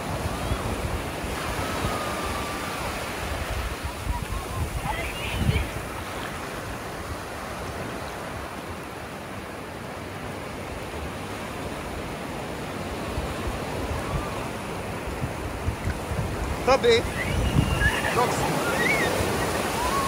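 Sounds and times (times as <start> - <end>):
ocean surf on sandy beach: 0.0 - 20.0.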